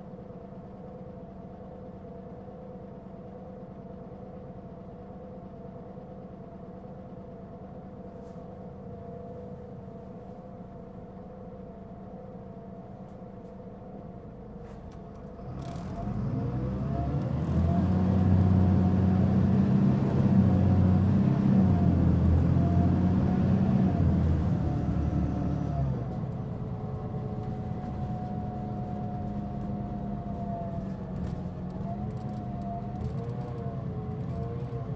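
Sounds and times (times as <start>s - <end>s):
bus diesel engine: 0.0s - 34.9s.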